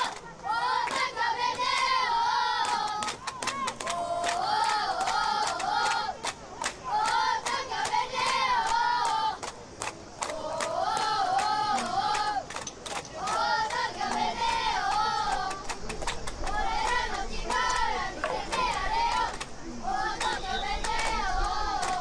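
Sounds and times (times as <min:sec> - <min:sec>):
crowd chanting a sung cheer: 0:00.0 - 0:09.5, 0:10.2 - 0:12.5, 0:13.1 - 0:15.7, 0:16.5 - 0:22.0
sharp hand claps: 0:02.6 - 0:19.5, 0:20.2 - 0:21.2, 0:21.8 - 0:22.0.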